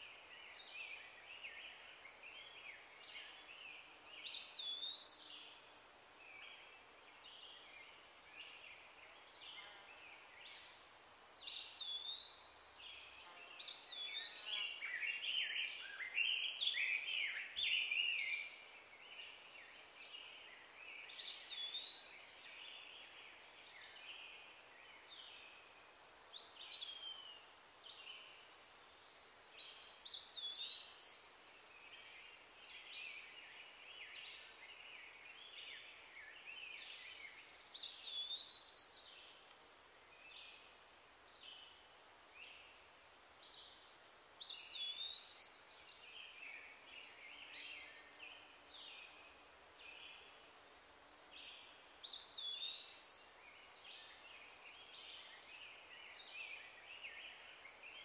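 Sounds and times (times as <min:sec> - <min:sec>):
faint outdoor hiss: 0:00.0 - 0:58.0.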